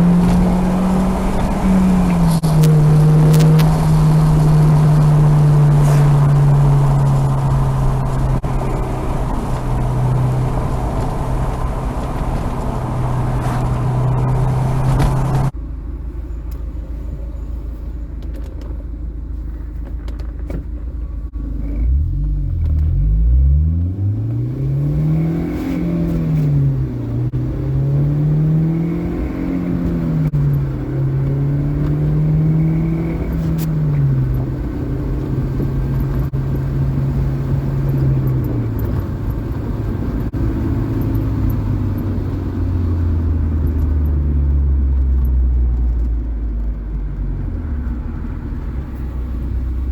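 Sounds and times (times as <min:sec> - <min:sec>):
car engine revving through gears: 0:00.0 - 0:15.6, 0:21.3 - 0:49.9.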